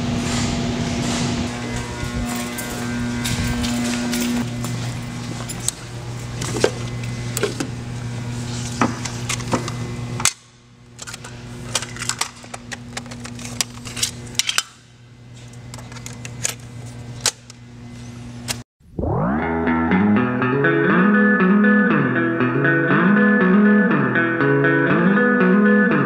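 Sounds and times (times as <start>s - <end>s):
steady low hum: 0.0s - 24.6s.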